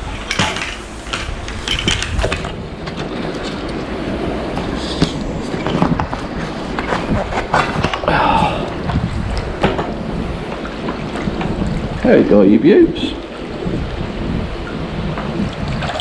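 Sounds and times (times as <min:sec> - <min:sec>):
rough rumble in mud and water: 0:00.0 - 0:16.0.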